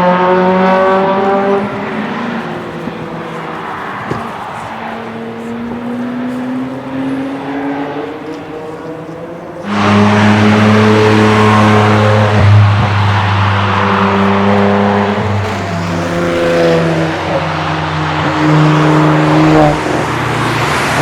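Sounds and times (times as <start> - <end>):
car engine under hard throttle: 0.0 - 21.0.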